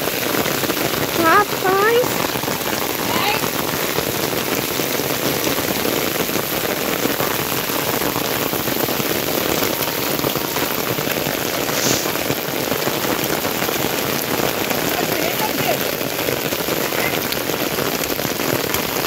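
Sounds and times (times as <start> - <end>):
heavy rain on stone pavement: 0.0 - 19.0.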